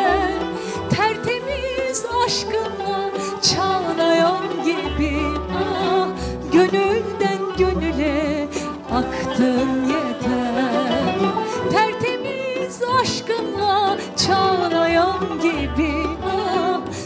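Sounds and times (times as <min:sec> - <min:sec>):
kanun plucking: 0:00.0 - 0:17.0
violin: 0:00.0 - 0:17.0
woman singing with vibrato: 0:00.0 - 0:17.0.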